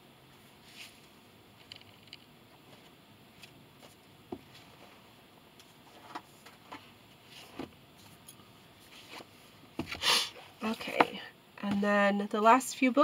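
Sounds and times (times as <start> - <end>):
light rustling of books: 0.4 - 12.0.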